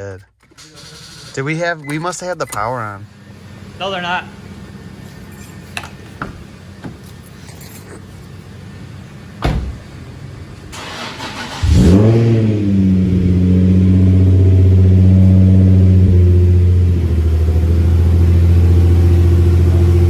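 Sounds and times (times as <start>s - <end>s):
car engine starting and idling: 0.5s - 20.0s.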